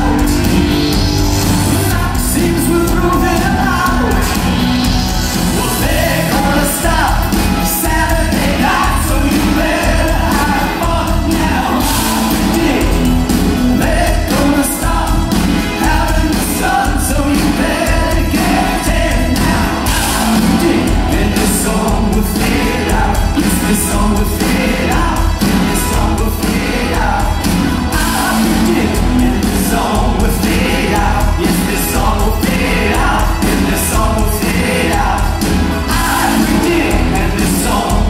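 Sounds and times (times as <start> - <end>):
live rock band playing: 0.0 - 38.0
man singing lead vocals: 0.0 - 38.0.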